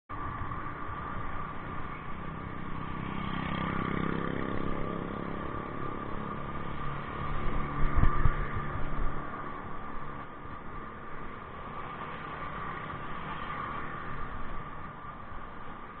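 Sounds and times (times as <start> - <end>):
road noise: 0.1 - 16.0.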